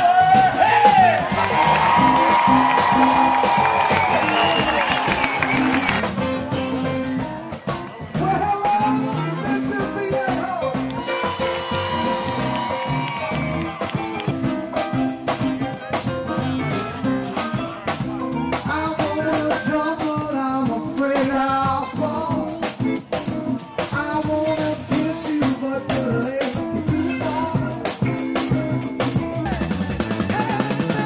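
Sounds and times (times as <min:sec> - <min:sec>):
drum kit: 0:00.0 - 0:31.0
electric guitar: 0:00.0 - 0:31.0
live rock band playing: 0:00.0 - 0:31.0.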